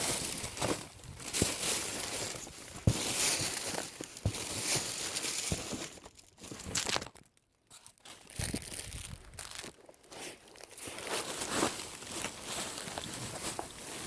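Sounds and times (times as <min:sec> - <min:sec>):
plastic bags and paper crinkling: 0:00.0 - 0:14.0.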